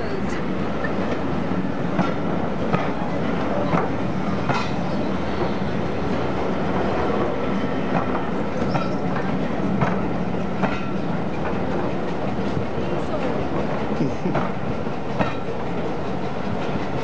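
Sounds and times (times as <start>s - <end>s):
train wheels rumbling on rail: 0.0s - 17.0s
wheels clacking over rail joints: 0.8s - 17.0s.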